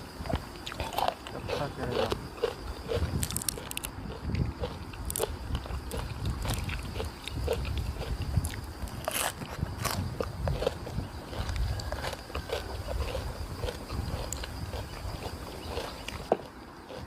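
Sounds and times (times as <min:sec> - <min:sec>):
chewing and mouth clicks: 0:00.2 - 0:16.3.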